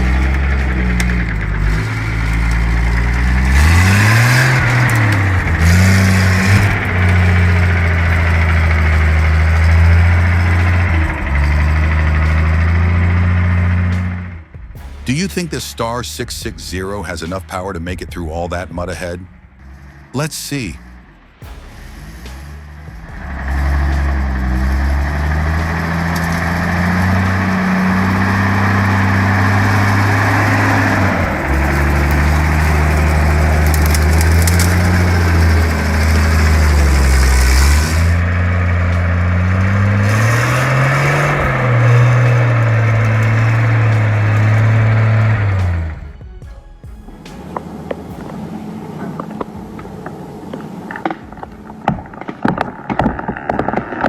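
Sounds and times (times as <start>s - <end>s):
rushing noise: 0.0s - 54.0s
truck engine working hard: 0.0s - 54.0s.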